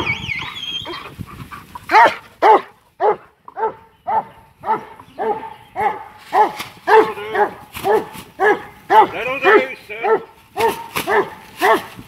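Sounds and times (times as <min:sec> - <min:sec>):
dog barking: 0:01.9 - 0:12.0.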